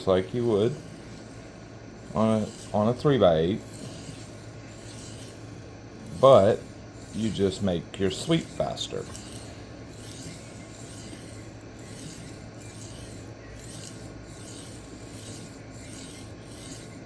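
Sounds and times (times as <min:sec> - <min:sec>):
knife rasping on sharpening stone: 0:00.0 - 0:17.0.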